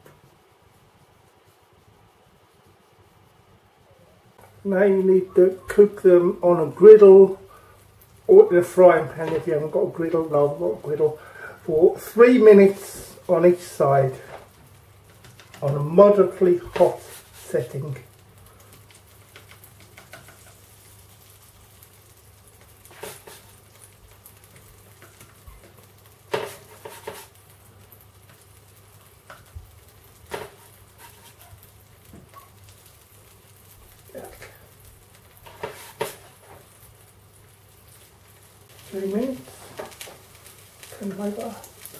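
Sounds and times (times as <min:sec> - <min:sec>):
faint sizzling in a frying pan: 0:00.0 - 0:41.9.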